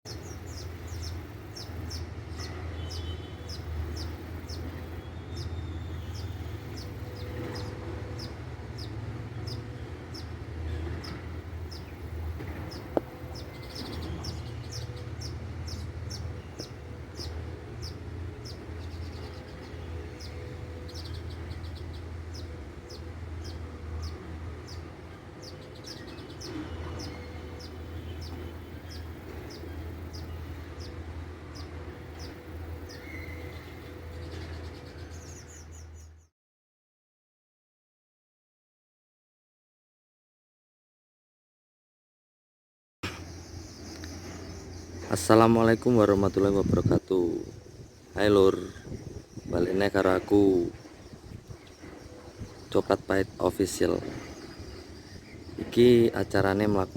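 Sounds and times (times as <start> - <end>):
bird chirping: 0.1 - 36.3, 43.0 - 56.9.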